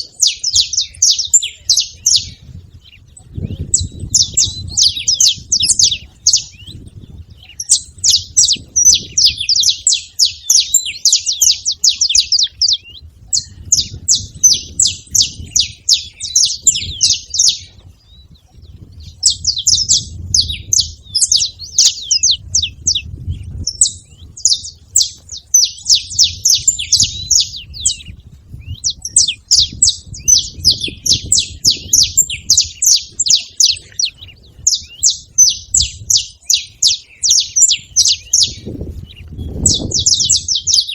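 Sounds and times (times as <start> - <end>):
finches singing chips and trills: 0.0 - 40.9.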